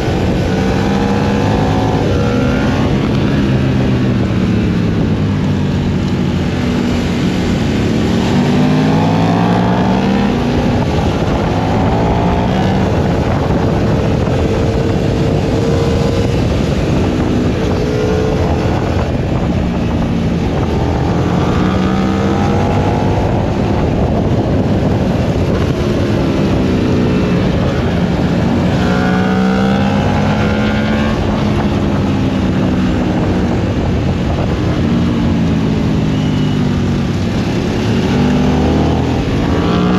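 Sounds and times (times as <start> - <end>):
motorcycle engine accelerating: 0.0 - 39.9
wind rushing on microphone: 0.0 - 39.9.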